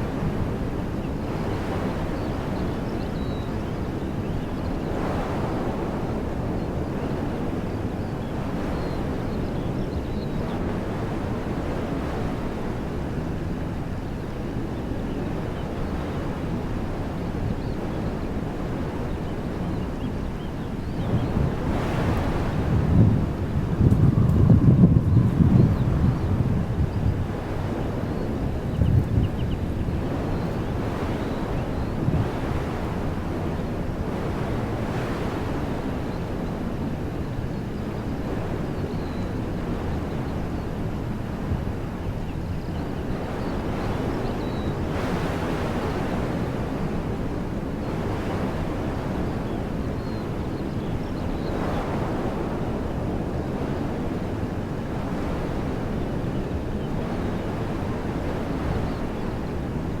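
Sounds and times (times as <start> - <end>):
wind blowing through trees: 0.0 - 60.0.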